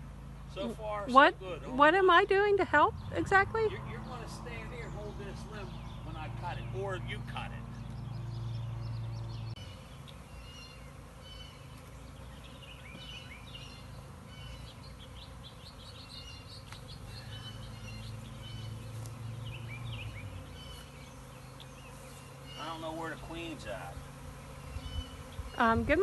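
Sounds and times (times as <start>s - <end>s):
honeybee swarm buzzing: 0.0s - 26.0s
songbirds chirping: 0.0s - 26.0s.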